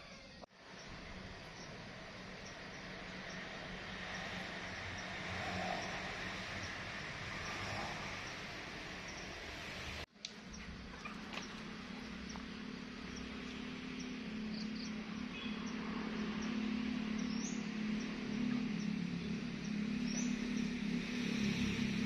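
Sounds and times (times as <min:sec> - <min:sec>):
low engine hum: 0:00.6 - 0:22.0.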